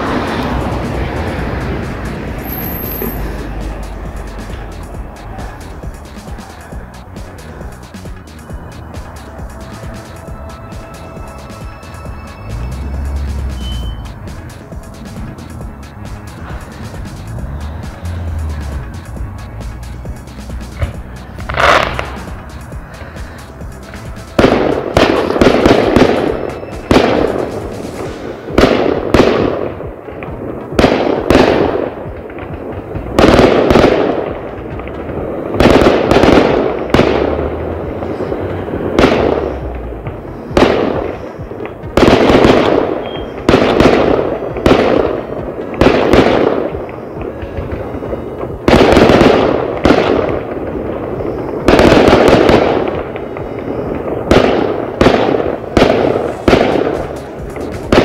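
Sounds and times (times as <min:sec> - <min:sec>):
fireworks bursting with echo: 0:00.0 - 0:58.0.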